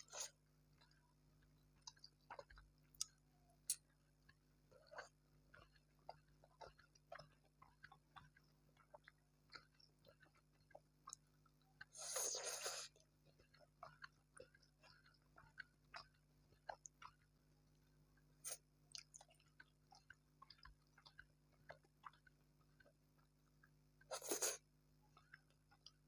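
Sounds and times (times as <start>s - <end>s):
person chewing: 0.0s - 17.6s, 18.4s - 26.0s.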